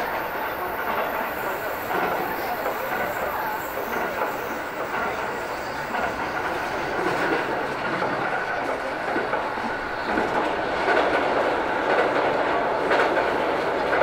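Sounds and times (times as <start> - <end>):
clickety-clack over rail joints: 0.0 - 14.0
train wheels on rails: 0.0 - 14.0.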